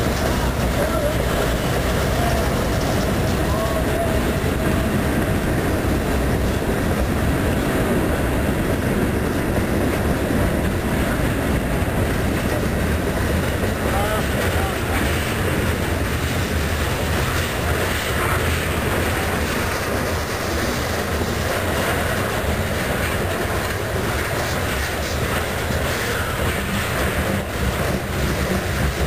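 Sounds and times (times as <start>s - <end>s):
freight train wheels rolling: 0.0s - 29.0s.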